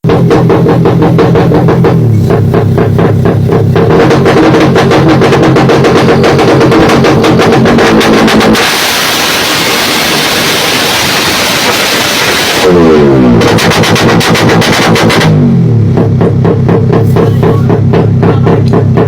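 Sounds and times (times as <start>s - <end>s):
electronic music with steady beat: 0.0s - 15.5s, 16.8s - 19.0s
motorcycle engine rough exhaust: 0.0s - 19.0s.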